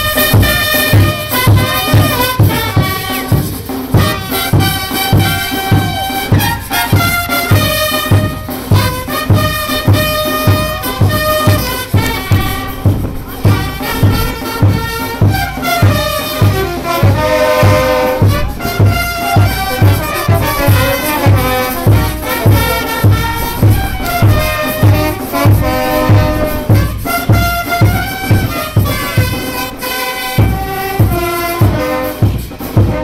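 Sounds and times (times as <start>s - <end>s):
bass drum beat: 0.0s - 33.0s
brass band music: 0.0s - 33.0s.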